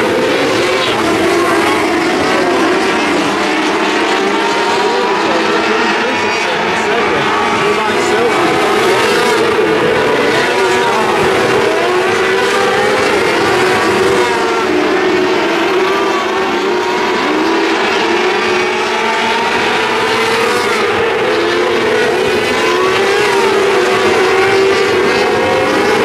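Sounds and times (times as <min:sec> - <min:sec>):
high-revving racing engines: 0:00.0 - 0:26.0.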